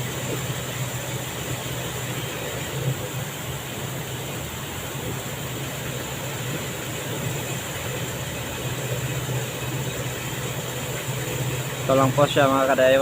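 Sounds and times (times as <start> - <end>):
constant rushing hiss: 0.0 - 13.0
hydro generator humming: 0.0 - 13.0.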